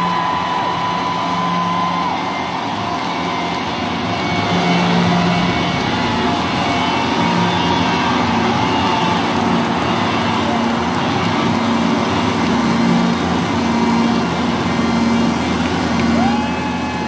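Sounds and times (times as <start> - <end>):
stadium crowd: 0.0 - 17.0.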